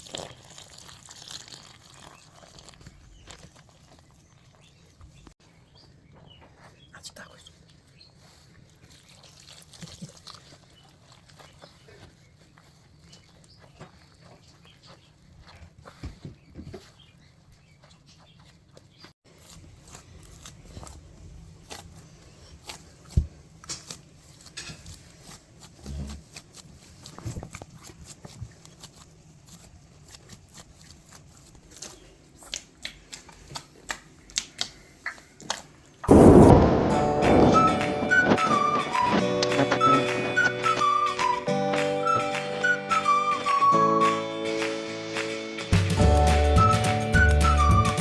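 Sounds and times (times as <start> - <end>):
dough being kneaded by hand: 0.0 - 6.8, 7.6 - 43.8.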